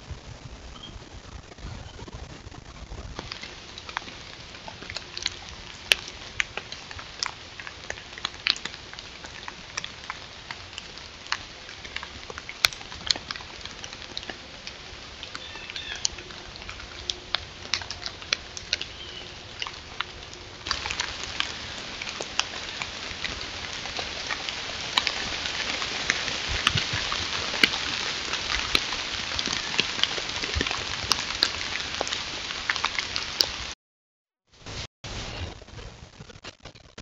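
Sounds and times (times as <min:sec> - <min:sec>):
rustling of dry leaves: 0:00.0 - 0:33.7
steady hiss: 0:00.0 - 0:33.7.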